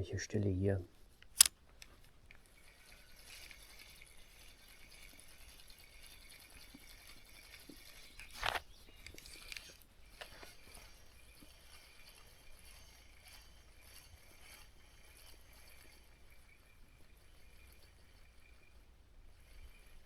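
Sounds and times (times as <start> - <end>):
faint high natural sounds: 0.0 - 20.0.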